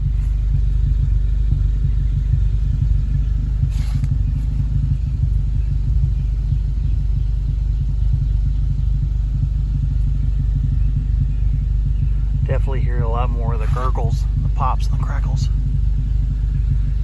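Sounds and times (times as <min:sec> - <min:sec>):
car exhaust rumble with gurgling: 0:00.0 - 0:17.0
sharp exhaust pop: 0:00.0 - 0:17.0.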